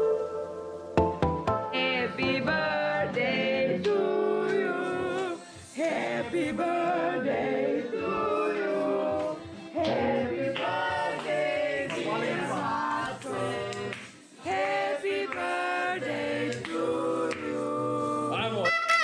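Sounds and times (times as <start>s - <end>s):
group singing birthday song: 1.4s - 18.6s.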